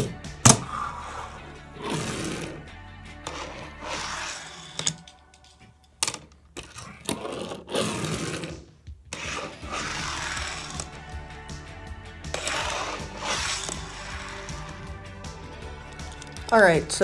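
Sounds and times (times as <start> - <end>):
fingerboard wheels rolling: 0.0 - 17.0.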